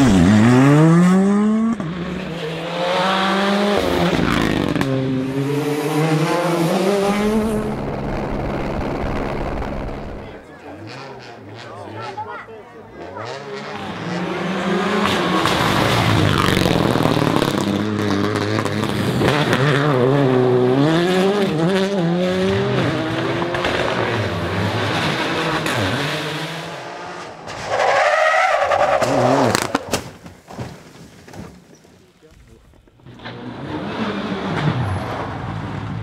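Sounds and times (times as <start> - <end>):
rally car engines revving: 0.0 - 30.0, 32.9 - 36.0.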